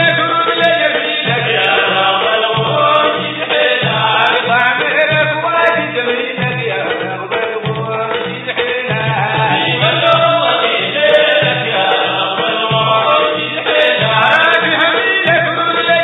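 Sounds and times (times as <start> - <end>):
men chanting in chorus: 0.0 - 5.4, 8.5 - 16.0
drums beating steady rhythm: 0.0 - 16.0.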